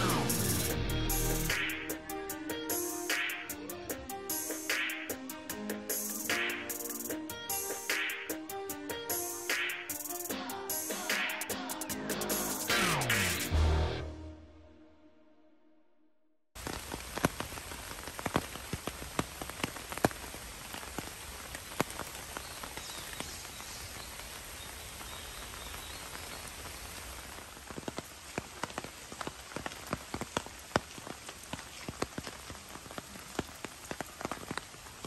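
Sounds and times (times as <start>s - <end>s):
rain falling: 0.0s - 12.6s, 16.6s - 35.0s.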